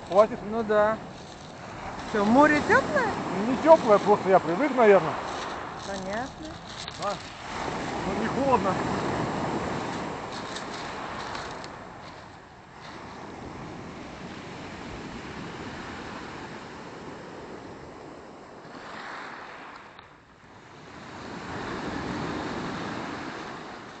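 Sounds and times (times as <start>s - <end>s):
waves washing onto shore: 0.0s - 24.0s
wind buffeting microphone: 0.0s - 24.0s.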